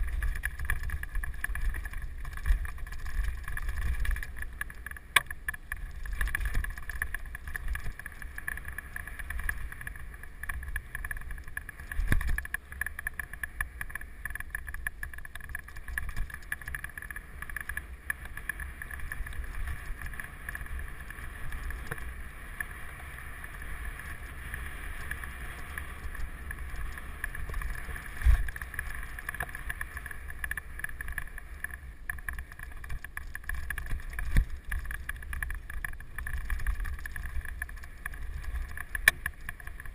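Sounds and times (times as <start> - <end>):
mountain bike rattling on trail: 0.0 - 39.9.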